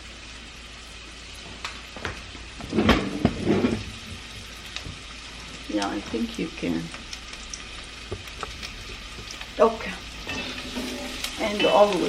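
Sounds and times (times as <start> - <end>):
onion sizzling in a pan: 0.0 - 12.0.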